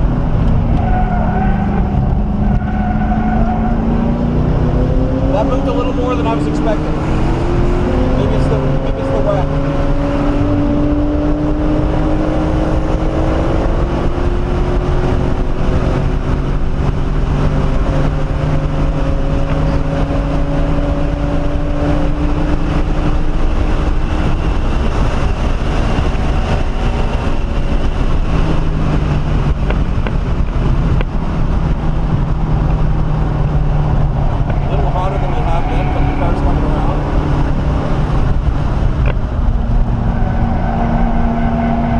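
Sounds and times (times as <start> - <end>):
car engine pulling hard: 0.0 - 41.9
tyre and wind rumble: 0.0 - 41.9.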